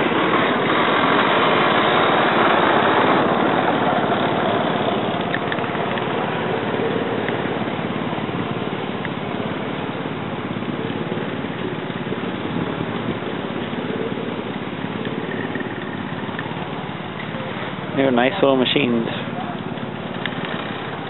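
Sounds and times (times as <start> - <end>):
engine chugging: 0.0 - 21.0.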